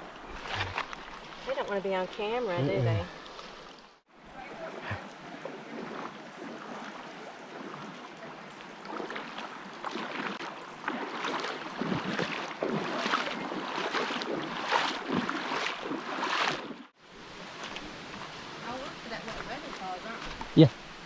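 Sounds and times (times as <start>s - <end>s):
creek water rushing over rocks: 3.2s - 21.0s.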